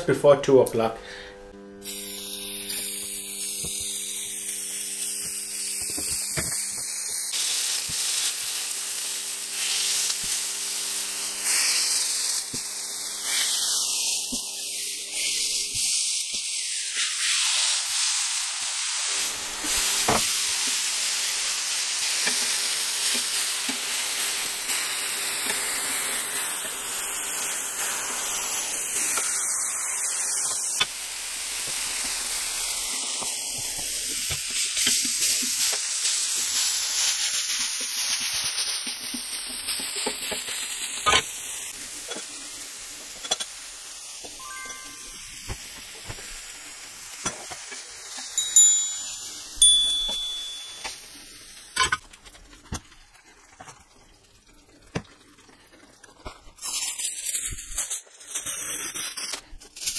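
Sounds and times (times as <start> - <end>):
burger patties sizzling on griddle: 1.8 - 59.9.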